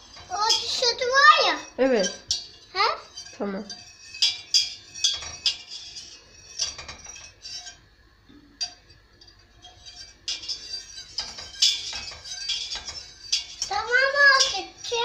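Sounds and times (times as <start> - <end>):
metal spoon clinking against pot: 0.0 - 15.0.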